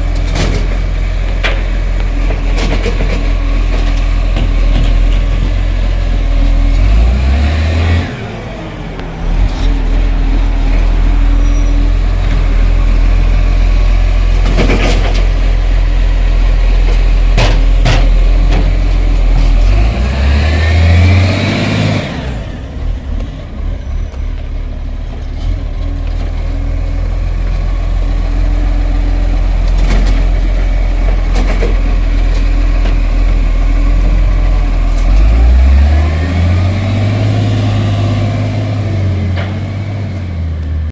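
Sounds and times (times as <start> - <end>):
garbage truck engine rumble: 0.0 - 40.9.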